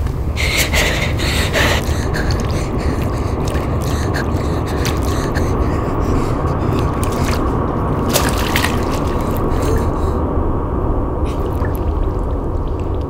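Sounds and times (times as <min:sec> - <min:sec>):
loud rumbling drone: 0:00.0 - 0:13.0
wet crackles and squelches: 0:01.0 - 0:10.2, 0:11.2 - 0:13.0.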